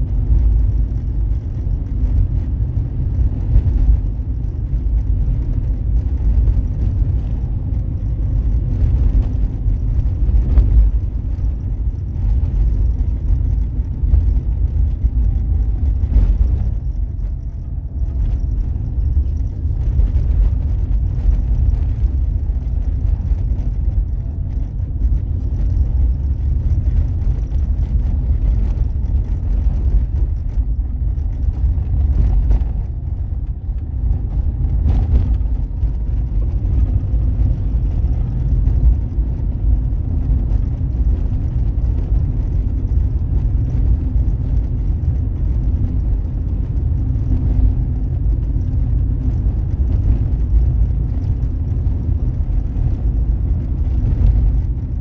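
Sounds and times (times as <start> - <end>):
car engine rumble: 0.0 - 55.0
road noise: 0.0 - 55.0.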